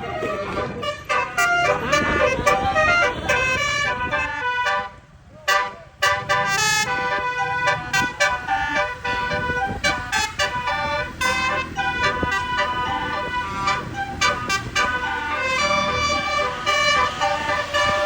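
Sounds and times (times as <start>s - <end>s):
air horns playing a tune: 0.0s - 18.0s
low engine rumble: 0.0s - 18.0s.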